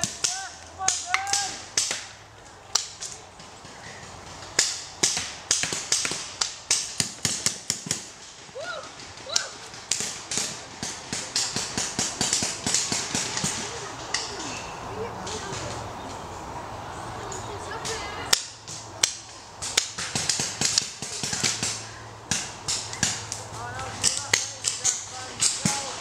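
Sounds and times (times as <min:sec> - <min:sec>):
paintball markers firing: 0:00.0 - 0:14.3, 0:18.3 - 0:26.0.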